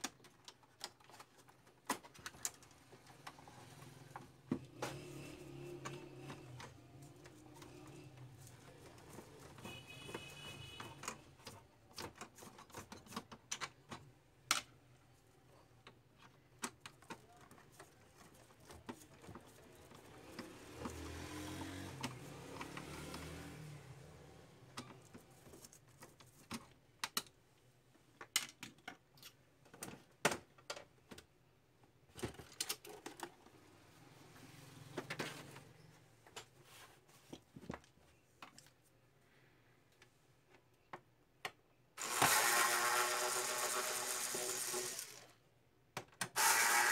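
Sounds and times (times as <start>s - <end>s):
plastic parts clicking and knocking: 0.0s - 15.0s, 15.8s - 23.4s, 24.7s - 33.7s, 39.9s - 45.3s, 45.9s - 46.9s.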